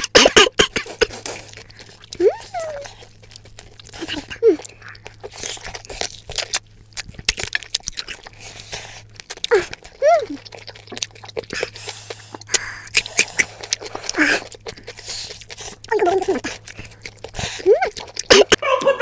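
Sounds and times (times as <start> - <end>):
close-up chewing and biting: 0.0 - 19.0
steady low hum: 0.0 - 19.0.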